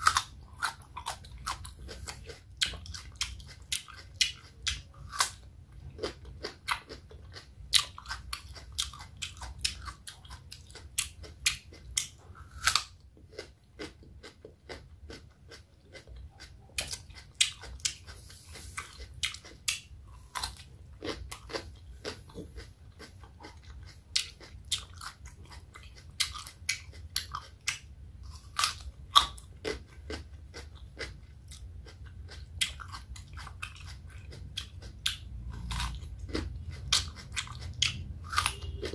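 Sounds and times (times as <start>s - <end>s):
cucumber being chewed: 0.0s - 38.9s.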